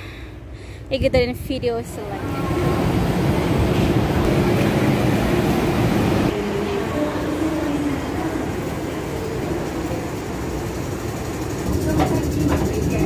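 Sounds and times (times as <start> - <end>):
train low rumble with whine: 0.0 - 13.0.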